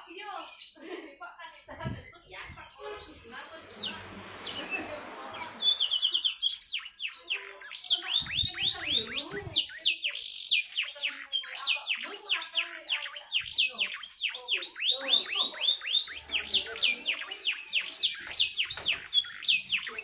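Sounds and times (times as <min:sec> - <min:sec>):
canary singing: 0:00.0 - 0:00.8, 0:01.8 - 0:20.0.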